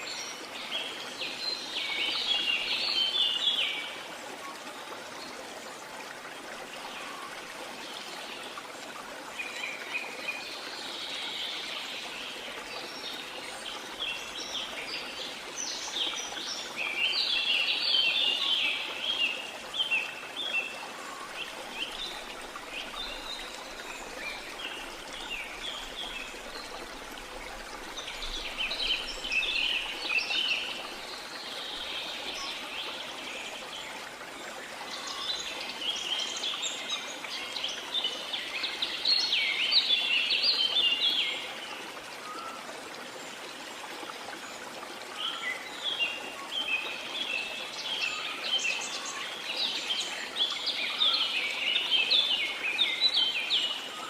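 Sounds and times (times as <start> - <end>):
rushing water or rain: 0.0 - 54.0.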